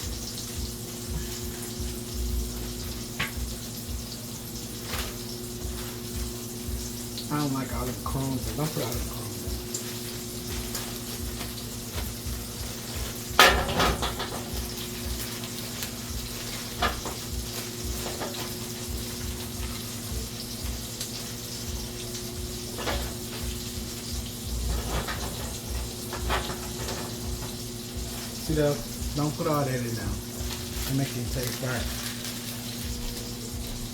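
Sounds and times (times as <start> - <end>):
steady low hum: 0.0 - 15.3, 18.8 - 31.4
food sizzling in a pan: 0.0 - 33.9
kitchenware clattering: 0.1 - 33.9.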